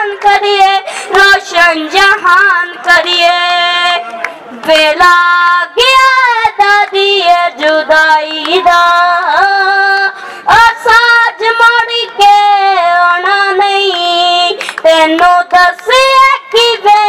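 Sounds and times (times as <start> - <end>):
boy singing into microphone: 0.0 - 4.0, 4.6 - 17.0.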